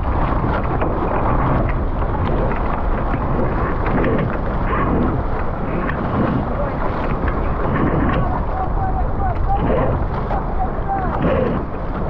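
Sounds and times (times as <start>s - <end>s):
water splashing against hulls: 0.0s - 12.0s
wind rumble on microphone: 0.0s - 12.0s.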